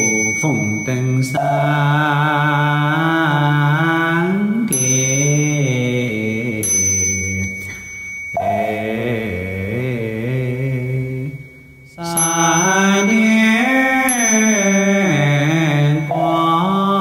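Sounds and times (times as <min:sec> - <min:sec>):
person chanting long notes: 0:00.0 - 0:06.7, 0:08.4 - 0:17.0.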